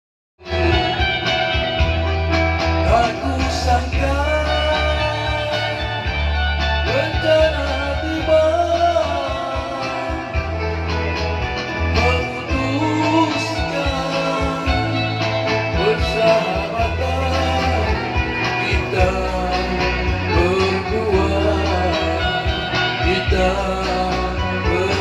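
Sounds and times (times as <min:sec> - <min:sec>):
man singing: 0:00.4 - 0:01.6, 0:02.8 - 0:06.2, 0:06.8 - 0:10.7, 0:11.8 - 0:25.0
backing music: 0:00.4 - 0:25.0.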